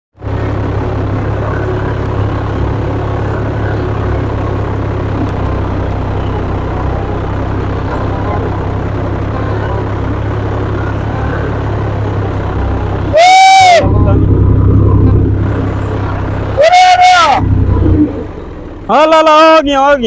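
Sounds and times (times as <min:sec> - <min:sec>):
tractor diesel engine running: 0:00.1 - 0:20.0.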